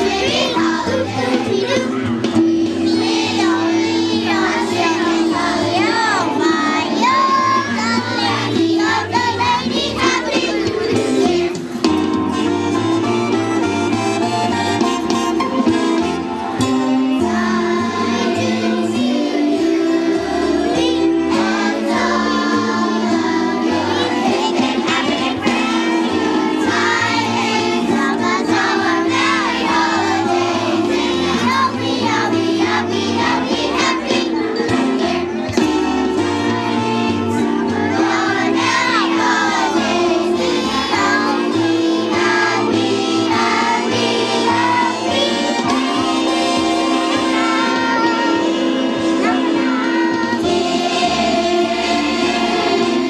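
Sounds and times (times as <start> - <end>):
children's choir singing: 0.0 - 53.0
instrumental accompaniment: 0.0 - 53.0.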